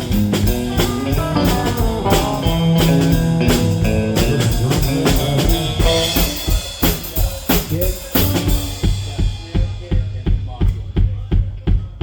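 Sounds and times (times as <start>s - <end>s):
live band playing: 0.0s - 9.9s
drum kit hits: 0.0s - 11.0s.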